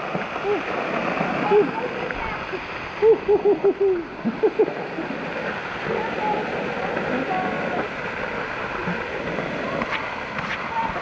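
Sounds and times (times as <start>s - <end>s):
waterfall pouring: 0.0s - 11.0s.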